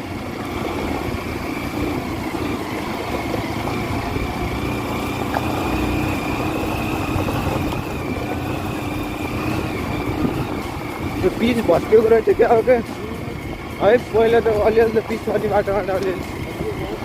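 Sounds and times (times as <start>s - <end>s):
dirt road noise: 0.0s - 17.0s
motorcycle engine: 0.0s - 17.0s.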